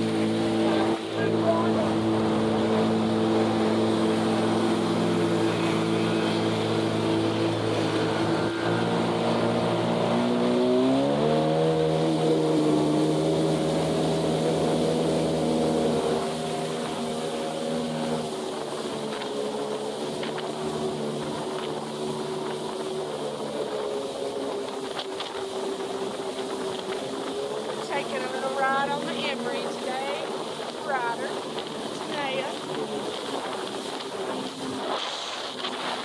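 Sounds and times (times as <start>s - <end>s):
jet ski engine: 0.0s - 36.0s
wind and water rushing: 0.0s - 36.0s.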